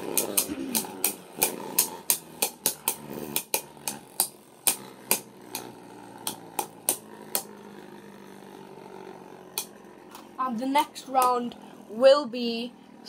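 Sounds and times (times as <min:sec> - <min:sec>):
spinning tops clicking together: 0:00.0 - 0:11.9
spinning tops whirring: 0:00.0 - 0:13.0.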